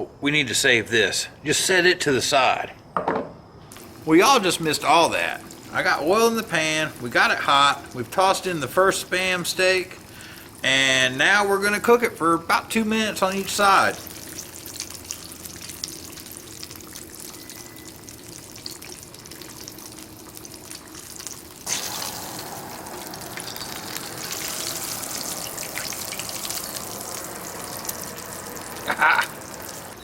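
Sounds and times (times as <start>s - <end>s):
meat frying in hot oil: 3.7s - 30.0s.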